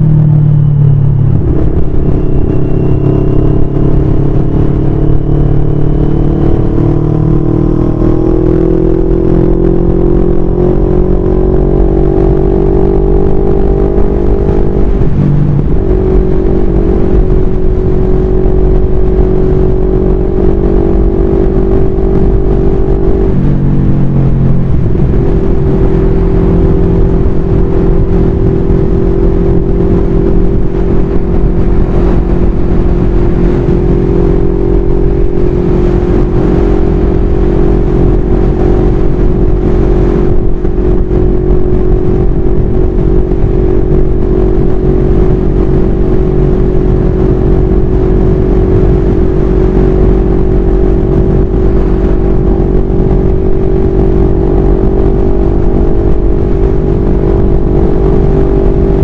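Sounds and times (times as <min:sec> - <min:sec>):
motorcycle engine cruising: 0:00.0 - 0:59.0
wind rumble on microphone: 0:00.0 - 0:59.0.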